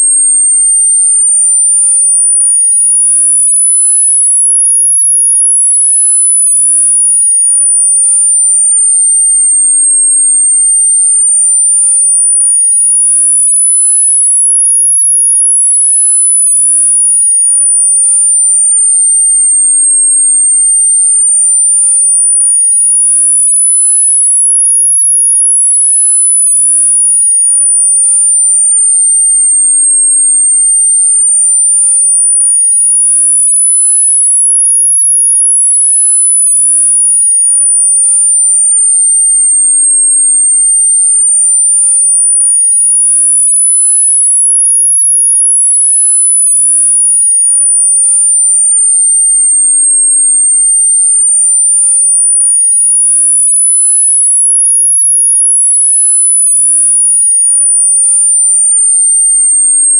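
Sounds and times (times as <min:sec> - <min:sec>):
high-pitched sine tone gliding: 0:00.0 - 0:59.9.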